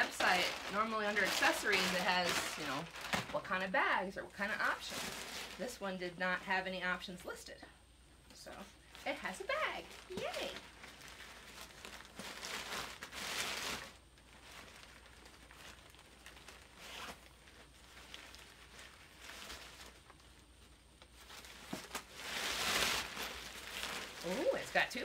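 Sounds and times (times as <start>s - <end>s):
nylon bag rustling: 0.0s - 3.7s, 4.3s - 6.2s, 8.9s - 25.0s.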